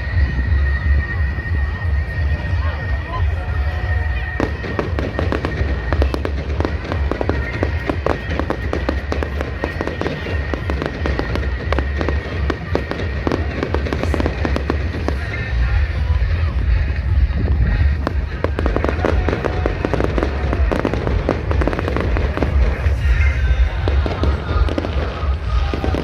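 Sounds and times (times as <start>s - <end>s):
fireworks crackling: 0.0s - 26.0s
music playing: 0.0s - 26.0s.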